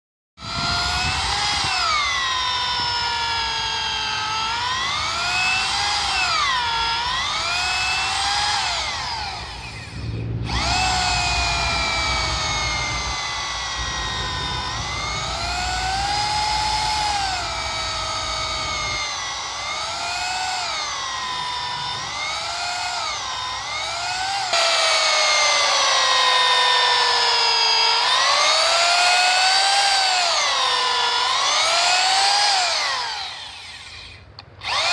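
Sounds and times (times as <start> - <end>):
power drill boring into wood: 0.4 - 34.9.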